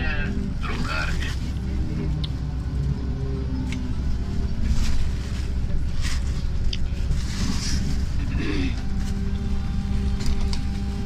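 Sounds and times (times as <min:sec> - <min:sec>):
trolleybus running gear rumble: 0:00.0 - 0:11.0.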